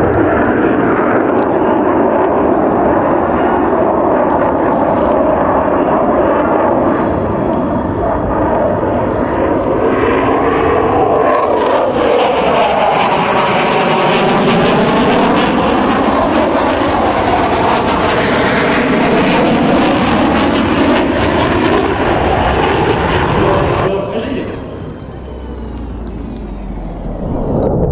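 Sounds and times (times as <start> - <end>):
jet roar passing: 0.0 - 27.9.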